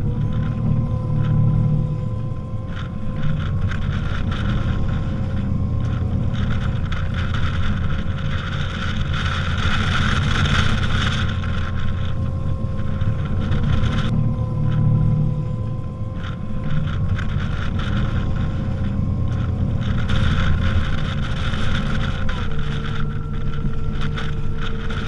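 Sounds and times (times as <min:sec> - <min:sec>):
faint steady whine: 0:00.0 - 0:25.0
low rumble: 0:00.0 - 0:25.0
wind buffeting microphone: 0:00.0 - 0:25.0.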